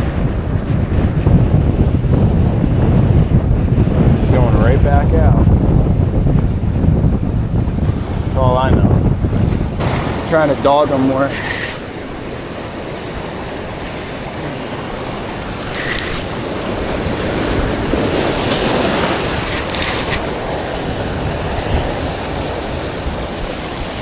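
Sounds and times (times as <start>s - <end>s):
wind buffeting microphone: 0.0s - 24.0s
surf breaking on rocks: 3.8s - 24.0s.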